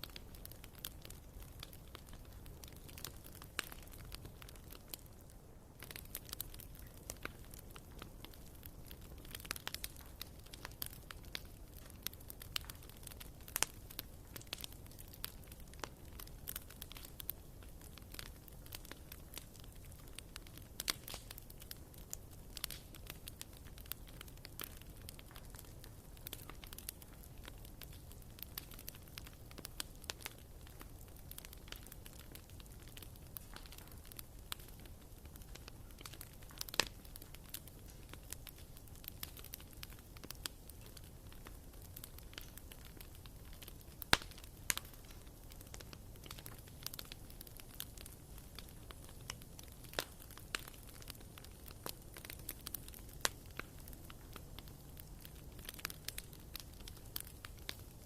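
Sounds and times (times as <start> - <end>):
wood fire crackling and snapping: 0.0 - 58.0.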